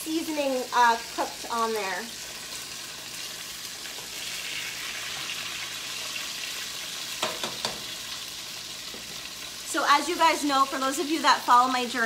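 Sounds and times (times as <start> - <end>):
chicken sizzling in a skillet: 0.0 - 12.0.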